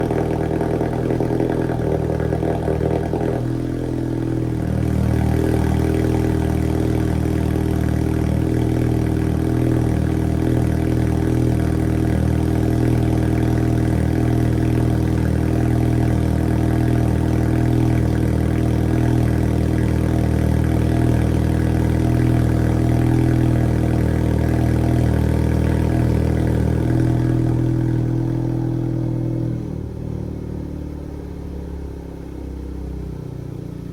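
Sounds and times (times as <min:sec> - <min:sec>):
turbocharged car engine running: 0:00.0 - 0:33.9.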